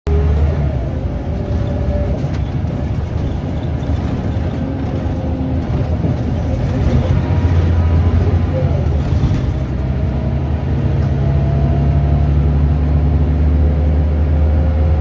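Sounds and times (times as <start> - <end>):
bus diesel engine droning: 0.1 - 15.0.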